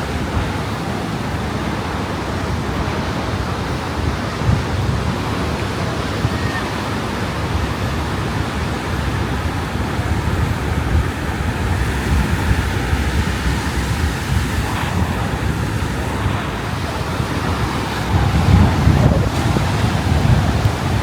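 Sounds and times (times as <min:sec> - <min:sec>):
ocean surf washing on beach: 0:00.0 - 0:21.0
wind buffeting microphone: 0:00.0 - 0:21.0.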